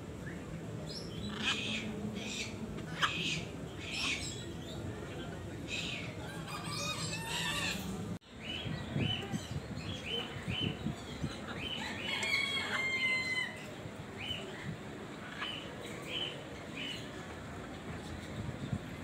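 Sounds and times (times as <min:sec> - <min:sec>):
caged birds chirping: 0:00.0 - 0:19.0.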